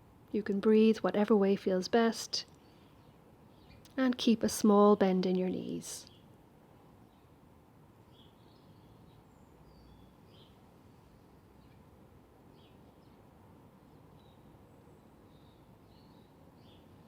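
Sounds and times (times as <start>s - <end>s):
low background noise: 0.0s - 17.0s
faint birds chirping: 0.4s - 17.0s.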